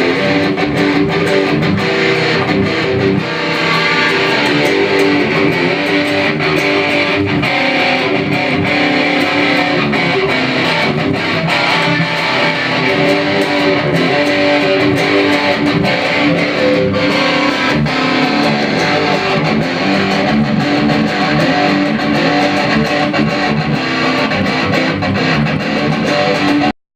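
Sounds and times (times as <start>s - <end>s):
distorted electric guitar: 0.0s - 26.8s.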